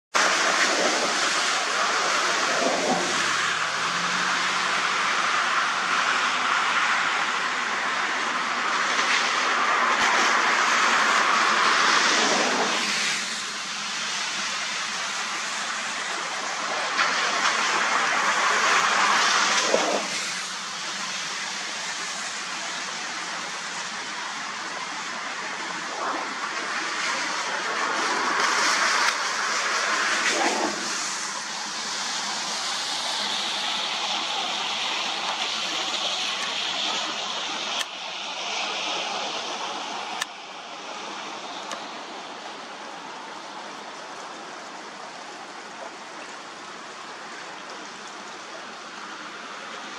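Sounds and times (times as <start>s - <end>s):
rushing creek water: 0.1s - 49.9s.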